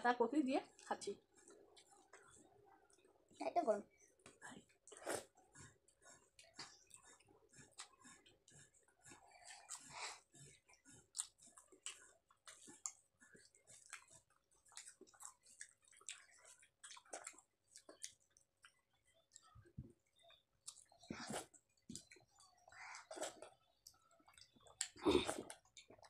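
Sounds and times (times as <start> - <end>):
chewing and lip smacks: 0.6 - 26.0
people eating with hands: 0.6 - 26.0.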